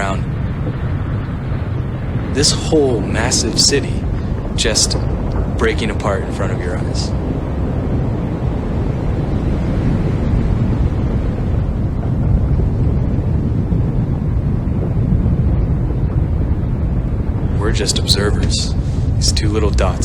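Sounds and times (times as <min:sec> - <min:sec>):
glacier ice rumbling: 0:00.0 - 0:20.0
wind on microphone: 0:00.0 - 0:20.0.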